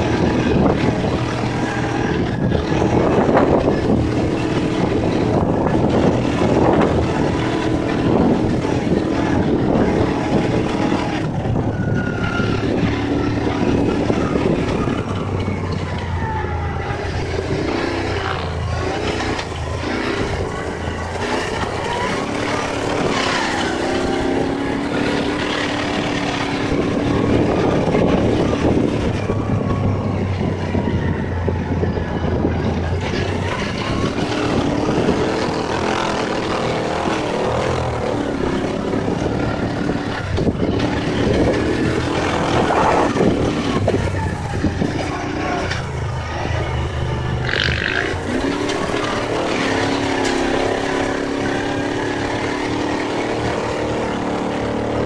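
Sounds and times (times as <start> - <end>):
broad rushing noise: 0.0 - 55.0
engine droning: 0.0 - 55.0.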